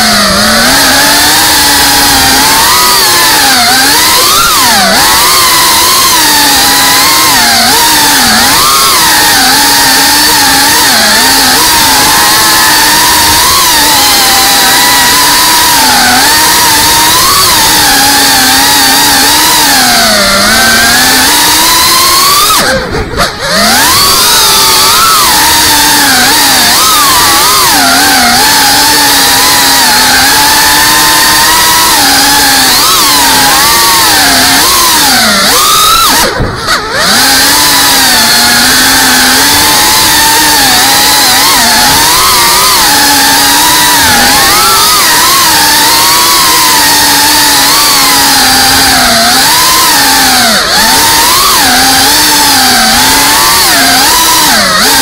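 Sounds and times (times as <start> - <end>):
drone motors whining: 0.0 - 55.0.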